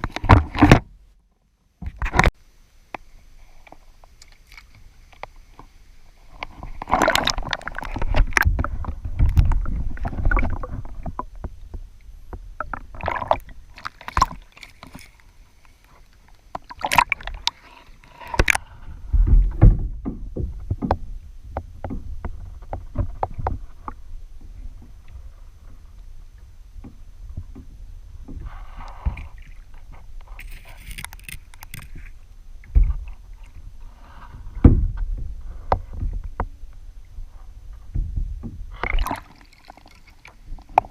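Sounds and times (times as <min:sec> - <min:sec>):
water sloshing and rushing: 0:00.0 - 0:01.2, 0:03.2 - 0:40.9.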